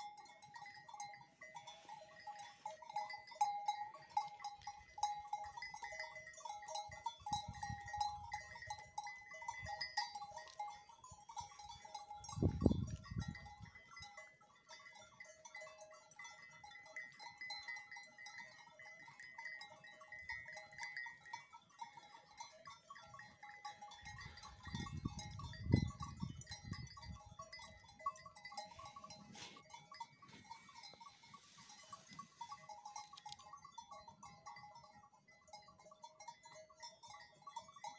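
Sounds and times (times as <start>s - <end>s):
sheep bells clinking: 0.0s - 37.9s.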